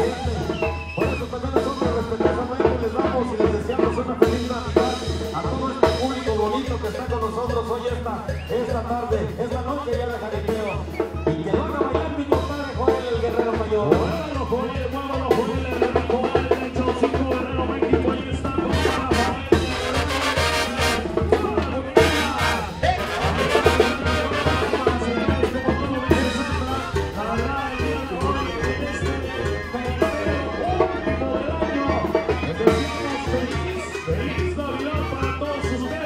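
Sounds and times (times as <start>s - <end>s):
brass band playing: 0.0s - 9.4s, 10.2s - 36.0s.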